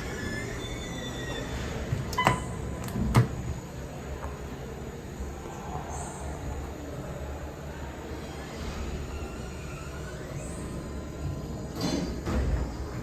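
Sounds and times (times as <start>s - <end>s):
elevator low rumble: 0.0s - 13.0s.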